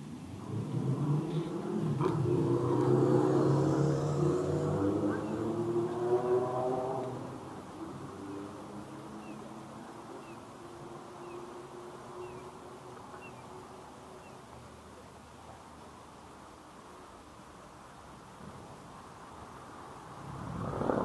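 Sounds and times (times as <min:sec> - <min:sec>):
faint street noise: 0:00.0 - 0:21.0.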